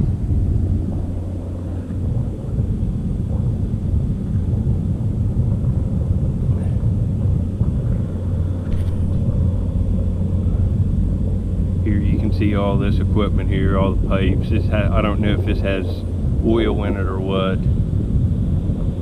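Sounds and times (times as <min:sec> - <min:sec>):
boat diesel engines rumbling: 0:00.0 - 0:19.0.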